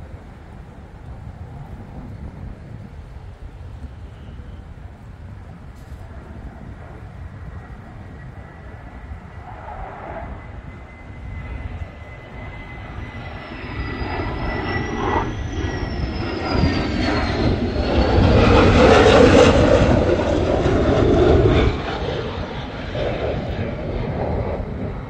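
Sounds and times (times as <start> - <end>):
fighter jet flying past: 0.0 - 25.0.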